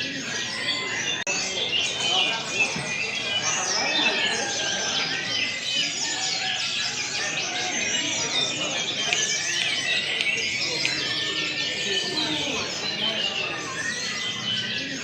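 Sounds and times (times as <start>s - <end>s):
birds chirping and trilling: 0.0s - 15.0s
murmur of voices: 0.0s - 15.0s.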